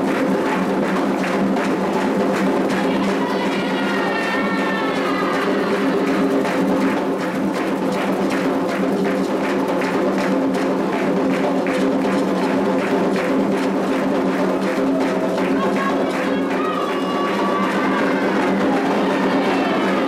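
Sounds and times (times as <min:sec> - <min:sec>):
fast drum and wood strokes: 0:00.0 - 0:20.0.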